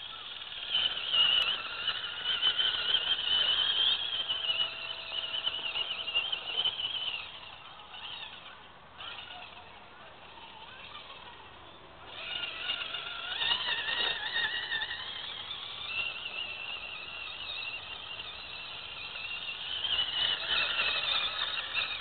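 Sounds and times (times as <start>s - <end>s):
toy car electric motor whining: 0.0s - 22.0s.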